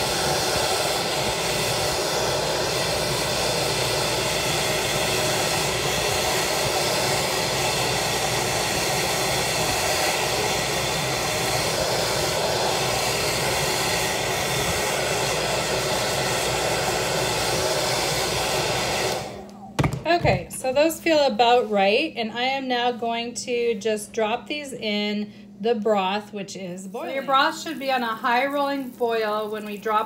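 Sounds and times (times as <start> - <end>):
hair dryer blowing: 0.0 - 24.6, 27.0 - 30.0.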